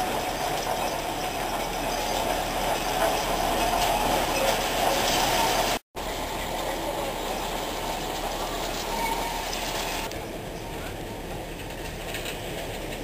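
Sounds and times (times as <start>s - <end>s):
train carriage and wheels rattling: 0.0s - 13.0s.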